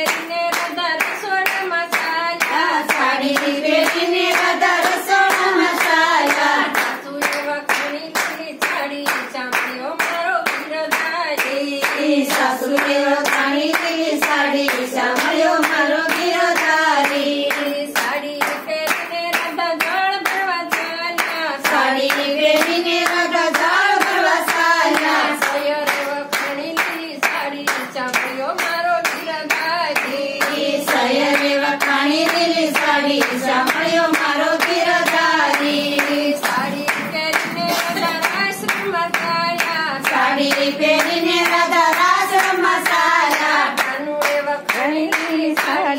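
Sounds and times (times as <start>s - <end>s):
hands clapping in rhythm: 0.0s - 45.9s
women singing together: 0.0s - 45.9s.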